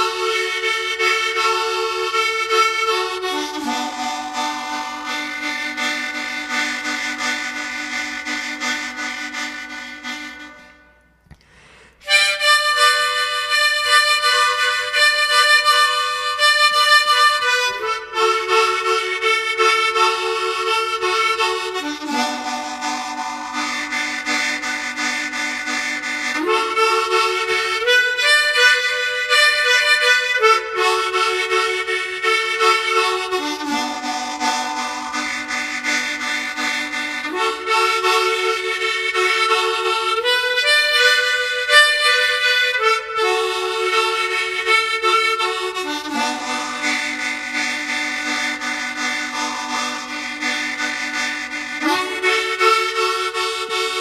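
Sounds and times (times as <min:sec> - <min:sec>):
harmonica playing slow chords: 0:00.0 - 0:54.0.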